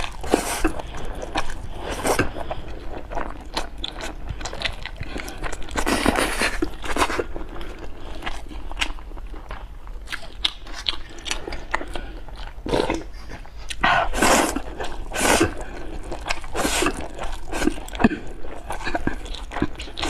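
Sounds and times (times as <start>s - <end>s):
person chewing with wet clicks: 0.0s - 13.8s, 14.5s - 20.0s.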